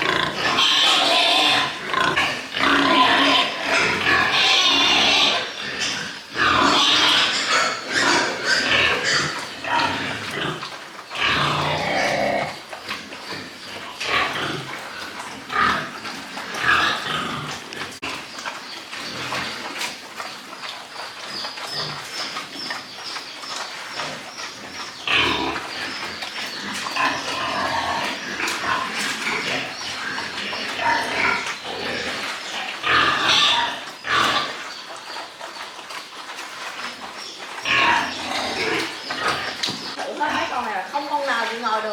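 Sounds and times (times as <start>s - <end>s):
pigs squealing and grunting: 0.0s - 40.8s.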